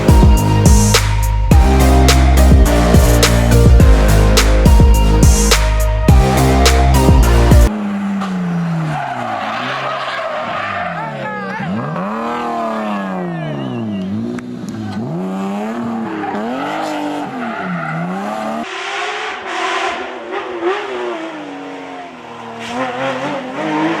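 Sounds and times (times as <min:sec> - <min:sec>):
car engine revving: 0:00.0 - 0:24.0
road and tyre noise: 0:00.0 - 0:24.0.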